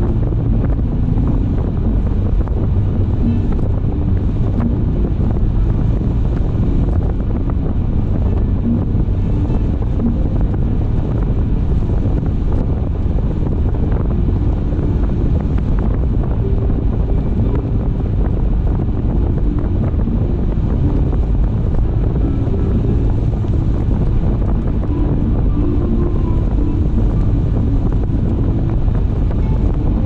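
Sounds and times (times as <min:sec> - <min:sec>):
tyre and wind noise: 0:00.0 - 0:30.0.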